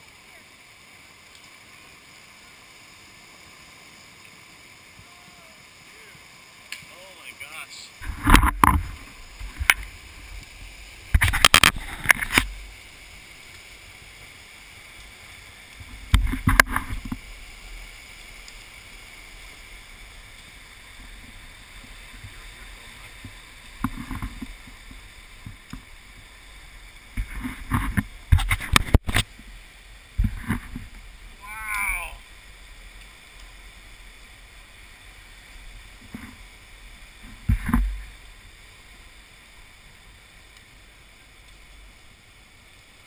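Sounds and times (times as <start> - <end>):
flood water rushing: 0.0 - 43.0.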